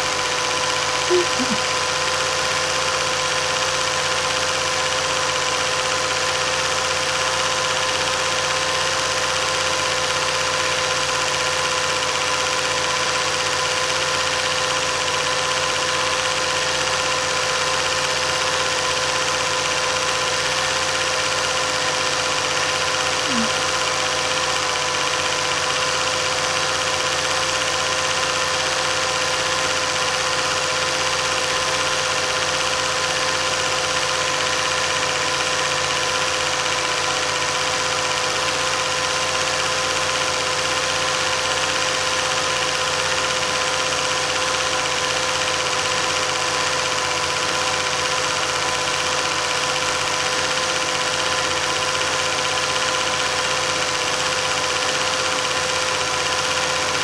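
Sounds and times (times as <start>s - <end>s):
film projector whirring: 0.0s - 57.0s.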